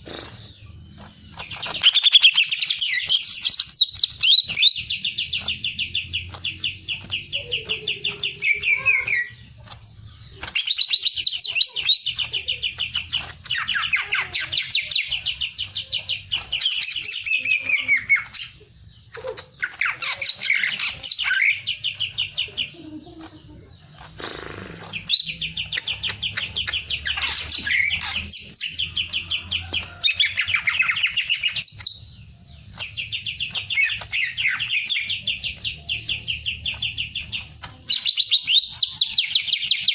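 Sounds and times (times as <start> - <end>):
songbird trilling: 0.1 - 18.6, 23.8 - 39.9.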